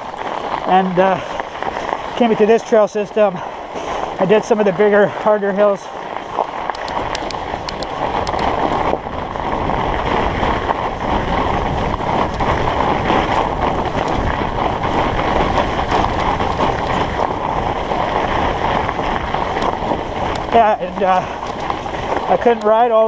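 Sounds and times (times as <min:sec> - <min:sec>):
bike tyres crunching on snow: 0:00.0 - 0:23.0
wind buffeting microphone: 0:00.0 - 0:23.0.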